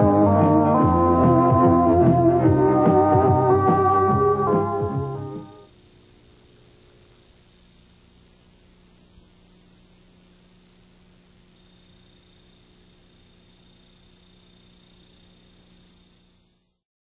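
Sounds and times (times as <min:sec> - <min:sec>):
tape hiss and hum: 0:00.0 - 0:16.8.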